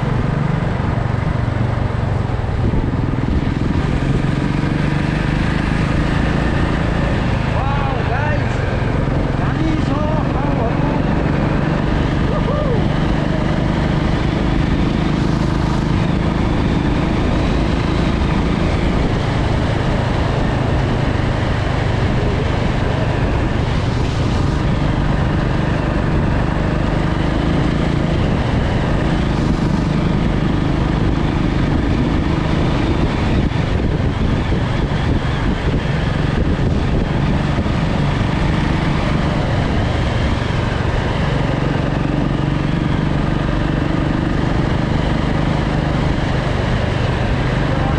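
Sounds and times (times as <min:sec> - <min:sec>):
motorcycle engine running: 0:00.0 - 0:47.9
wind rush over microphone: 0:00.0 - 0:47.9.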